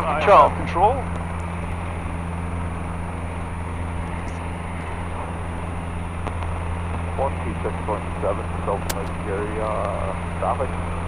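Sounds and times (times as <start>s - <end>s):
airplane engine droning: 0.0s - 11.0s.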